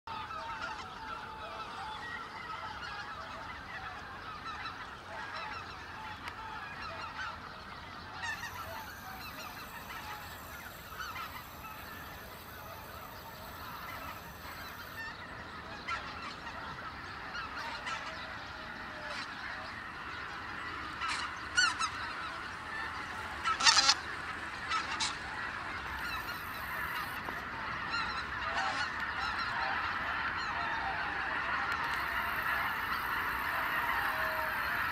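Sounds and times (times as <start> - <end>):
flock of geese honking: 0.1 - 34.9.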